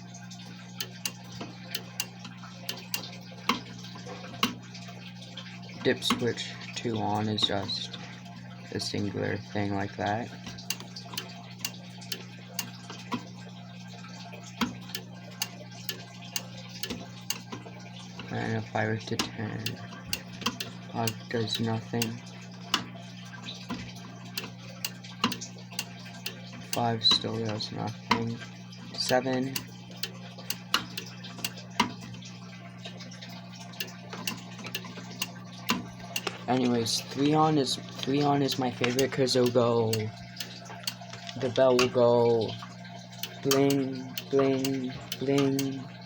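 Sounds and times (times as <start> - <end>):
low electrical hum: 0.0 - 46.0
relay clicking: 0.4 - 46.0.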